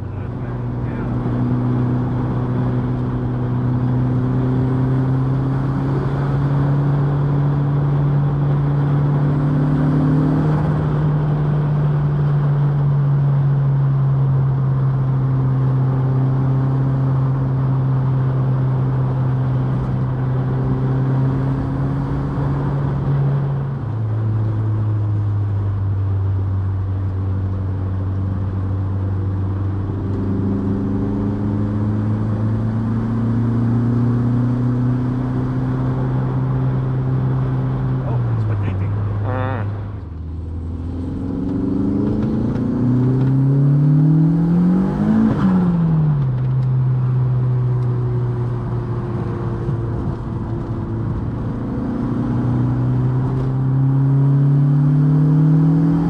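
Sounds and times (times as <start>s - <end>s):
car engine running: 0.0s - 54.2s.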